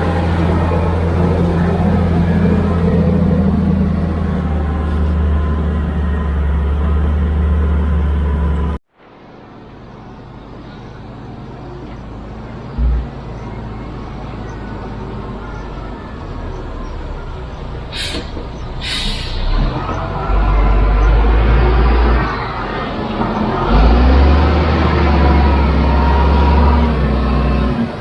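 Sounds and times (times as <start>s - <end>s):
heavy machinery engine droning: 0.0s - 28.0s.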